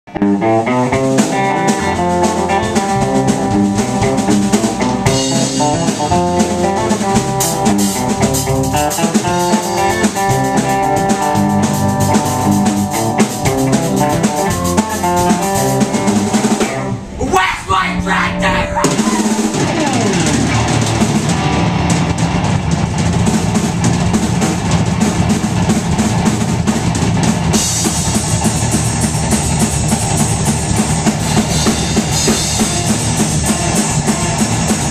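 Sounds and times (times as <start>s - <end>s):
amplified guitars: 0.1s - 34.9s
drum kit: 0.1s - 34.9s.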